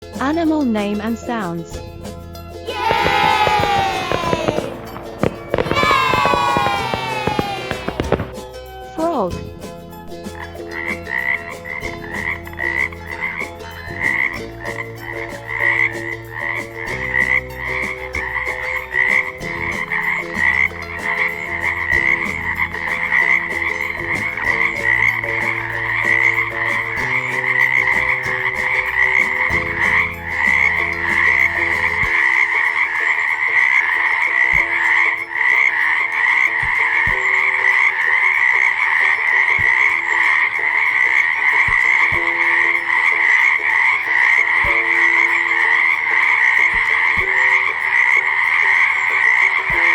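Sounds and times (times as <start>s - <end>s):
frogs croaking in chorus: 2.8s - 8.3s, 10.3s - 49.9s.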